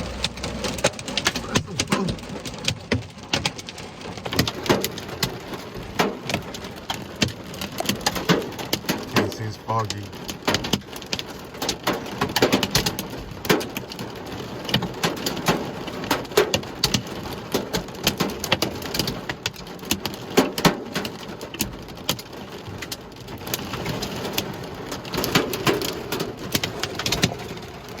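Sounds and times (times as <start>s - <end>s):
heavy rain on hard surfaces: 0.0s - 28.0s.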